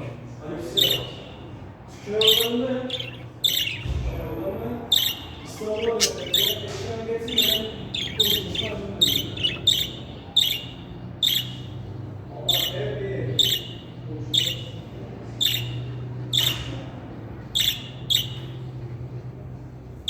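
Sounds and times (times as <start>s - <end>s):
budgerigar chirping: 0.6s - 18.8s.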